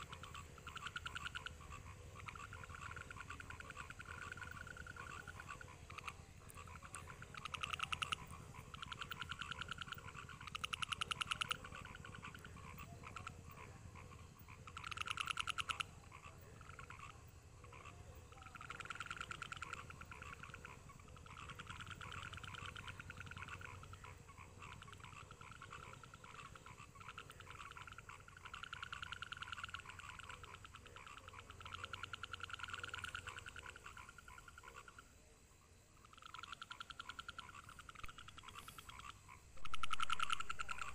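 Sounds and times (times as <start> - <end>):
frogs trilling: 0.0 - 40.9.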